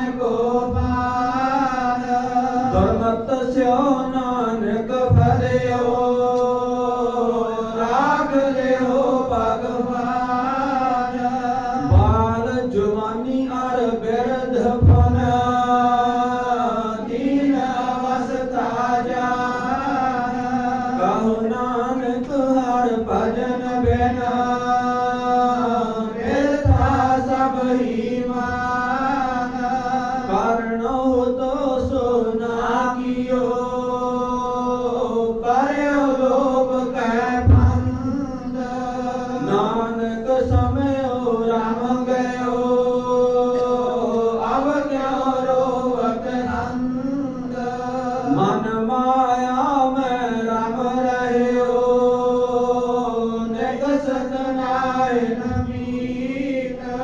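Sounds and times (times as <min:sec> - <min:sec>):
person chanting: 0:00.0 - 0:57.0.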